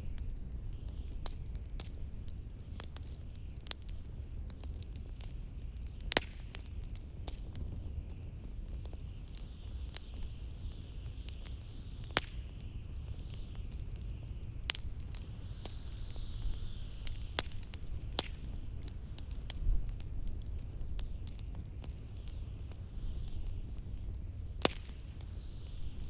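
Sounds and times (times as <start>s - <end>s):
low rumble of wind: 0.0s - 26.0s
wood fire crackling and popping: 0.0s - 26.0s.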